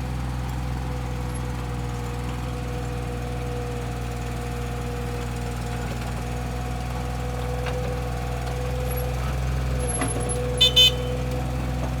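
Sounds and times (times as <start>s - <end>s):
excavator diesel engine whining: 0.3s - 12.0s.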